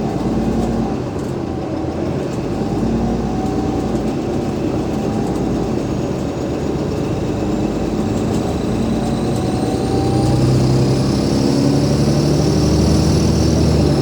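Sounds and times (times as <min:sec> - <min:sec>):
bus diesel engine pulling: 0:00.0 - 0:14.0.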